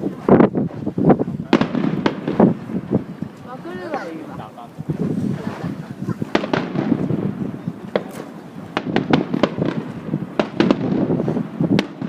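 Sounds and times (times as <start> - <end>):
fireworks cracks and bangs: 0.0 - 12.0.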